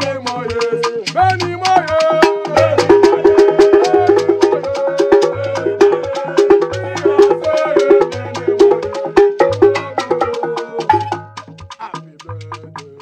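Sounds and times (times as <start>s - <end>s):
chanted singing: 0.0s - 11.2s
gourd shaker: 0.0s - 13.0s
hand drum: 0.0s - 13.0s.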